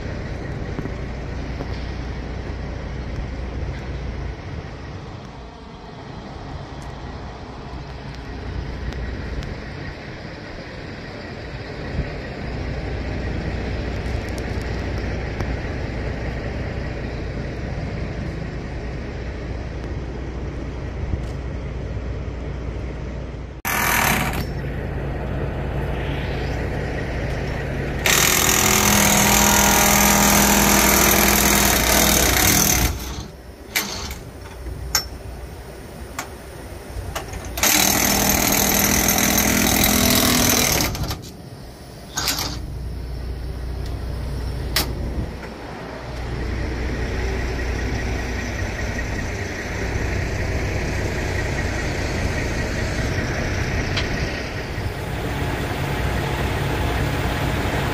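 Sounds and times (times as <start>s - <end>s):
diesel truck engine idling: 0.0s - 57.9s
harsh mechanical noise: 0.0s - 57.9s.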